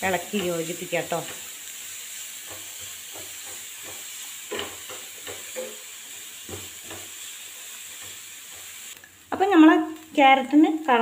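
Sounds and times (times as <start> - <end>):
carrot sizzling in frying pan: 0.0 - 11.0.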